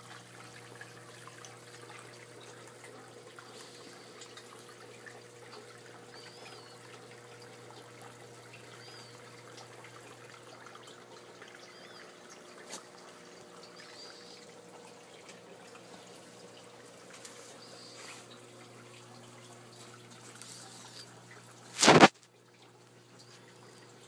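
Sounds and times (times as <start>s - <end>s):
faint steady hum: 0.0s - 24.0s
water trickling and dripping: 0.0s - 24.0s.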